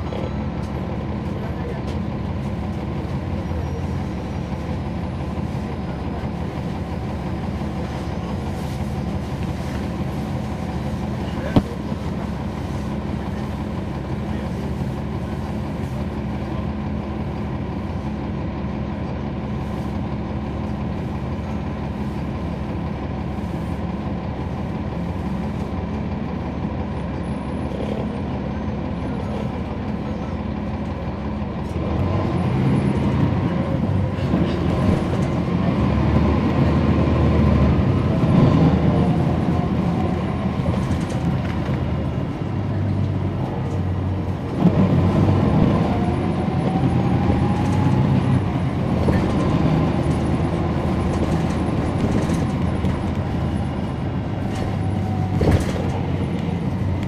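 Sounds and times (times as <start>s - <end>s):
bus diesel engine running: 0.0s - 57.0s
road noise: 0.0s - 57.0s.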